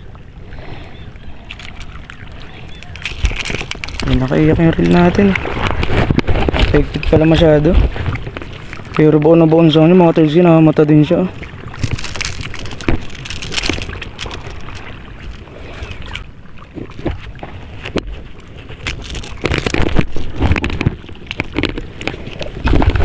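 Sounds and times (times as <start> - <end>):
water lapping in shallows: 0.0 - 23.0
wind rumbling on microphone: 0.0 - 23.0
fishing gear clicks and knocks: 1.4 - 23.0.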